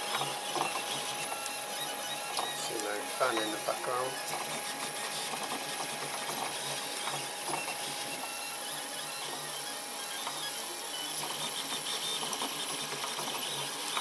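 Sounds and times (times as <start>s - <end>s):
cooling fan hiss: 0.0s - 14.0s
stepper motors whirring: 0.0s - 14.0s.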